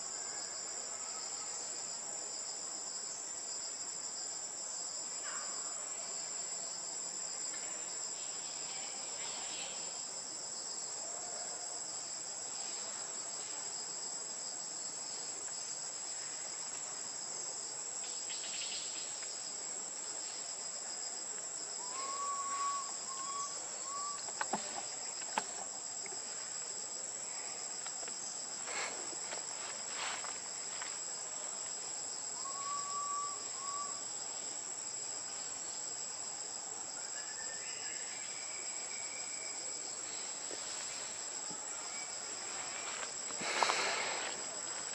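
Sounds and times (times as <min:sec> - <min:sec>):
insect chorus drone: 0:00.0 - 0:44.9.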